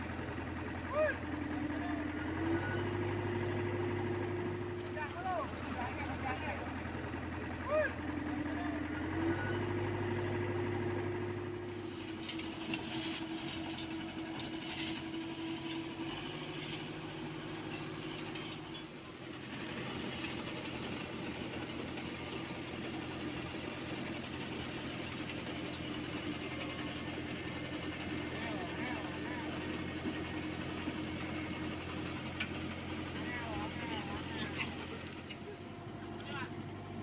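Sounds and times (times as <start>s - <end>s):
heavy equipment engines running: 0.0s - 37.0s.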